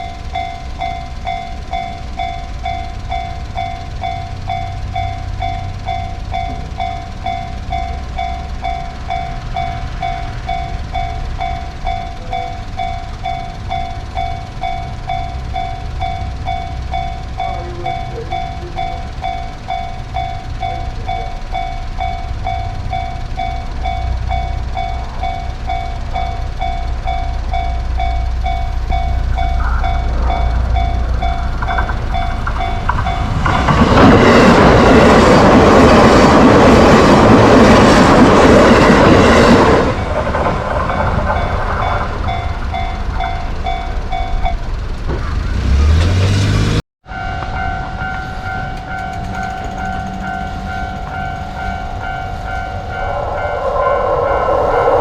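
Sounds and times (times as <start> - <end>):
railroad crossing bell dinging: 0.0 - 55.0
train rumble: 0.0 - 55.0.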